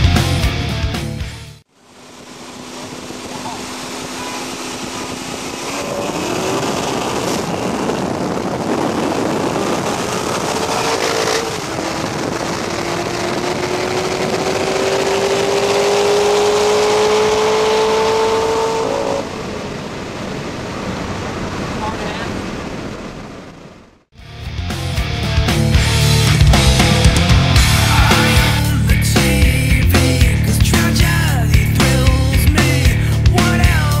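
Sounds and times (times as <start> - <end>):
car engines at full throttle: 0.0 - 34.0
wind and road rush: 1.6 - 24.2, 25.0 - 34.0.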